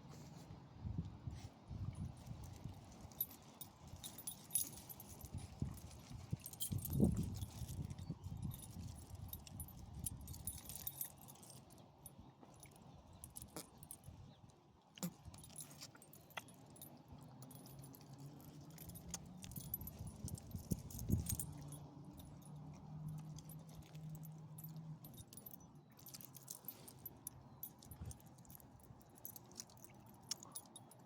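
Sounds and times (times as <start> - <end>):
light metallic jingling and clicking: 1.9 - 14.4, 15.0 - 31.0.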